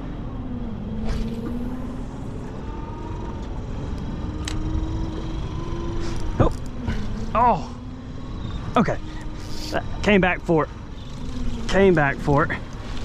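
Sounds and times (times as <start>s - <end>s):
faint motor hum: 0.0s - 13.0s
wind: 0.0s - 13.0s.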